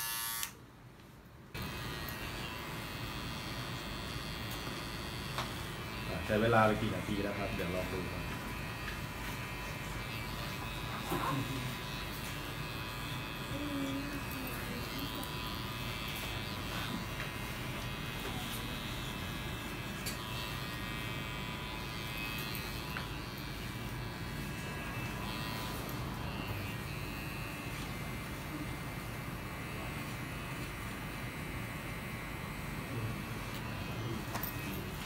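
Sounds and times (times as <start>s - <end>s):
electric hair clipper buzzing: 0.0s - 0.6s, 1.5s - 35.0s.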